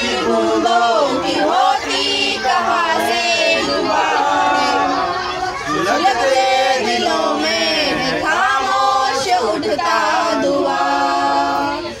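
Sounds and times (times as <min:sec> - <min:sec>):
men singing unaccompanied: 0:00.0 - 0:12.0.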